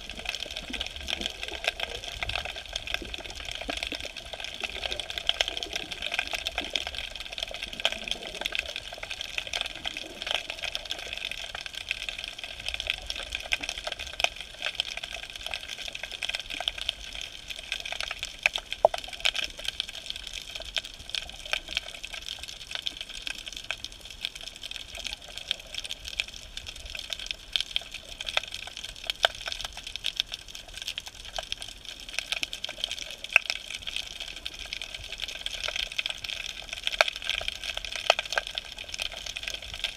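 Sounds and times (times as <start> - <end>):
fine crackling clicks: 0.0 - 39.9.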